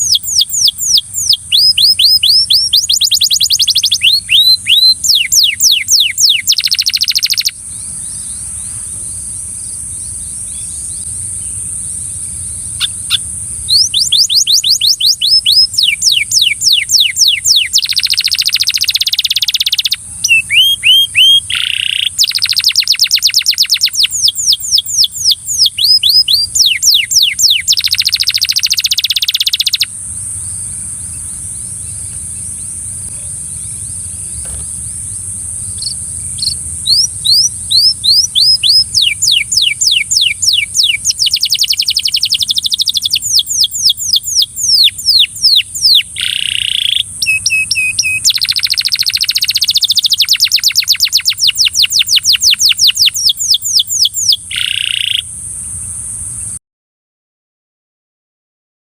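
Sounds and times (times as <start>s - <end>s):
canary singing: 0.0s - 55.4s.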